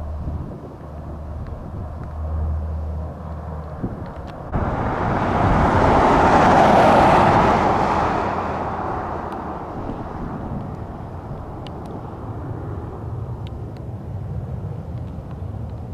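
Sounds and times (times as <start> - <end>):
low propeller drone: 0.0 - 15.9
rushing aircraft noise: 0.0 - 15.9.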